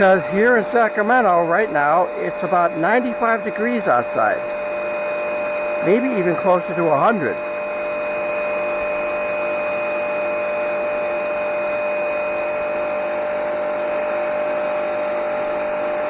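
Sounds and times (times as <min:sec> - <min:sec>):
pressure washer whining: 0:00.0 - 0:16.0
water jet hissing on concrete: 0:00.0 - 0:16.0.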